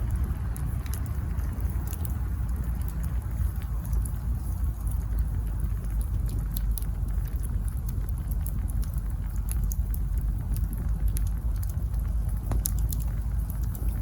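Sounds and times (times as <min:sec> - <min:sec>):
campfire crackling: 0:00.0 - 0:14.0
fire pops and snaps: 0:00.0 - 0:14.0.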